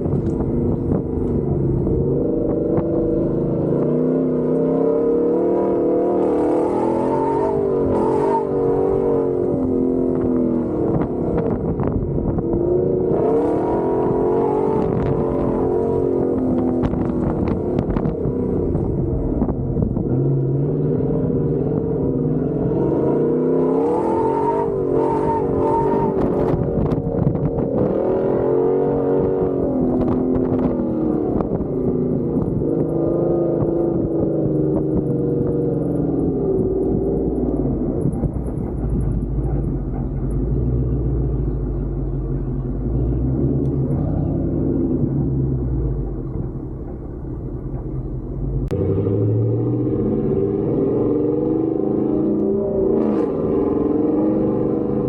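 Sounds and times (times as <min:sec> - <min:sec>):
off-road engine revving: 0:00.0 - 0:55.0.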